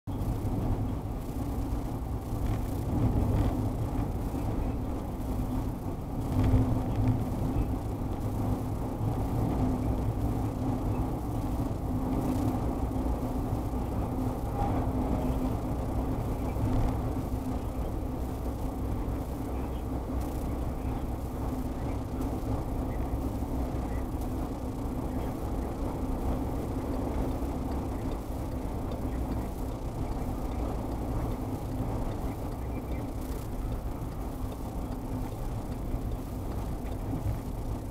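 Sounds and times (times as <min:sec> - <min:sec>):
road and engine noise in car: 0:00.0 - 0:37.9
recorder crackles and hiss: 0:00.1 - 0:37.9.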